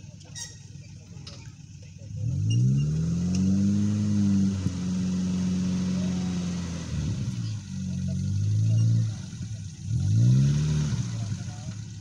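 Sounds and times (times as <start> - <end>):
suv engine revving: 0.0 - 12.0.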